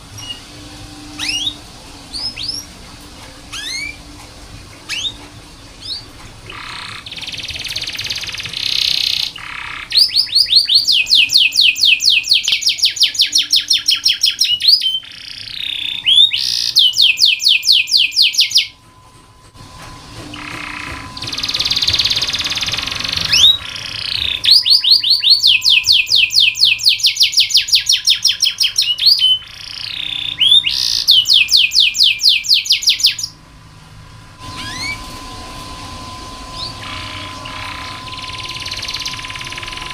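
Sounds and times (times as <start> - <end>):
canary singing trills: 1.1 - 2.8, 3.5 - 4.1, 4.8 - 18.8, 20.3 - 33.4, 34.4 - 39.9.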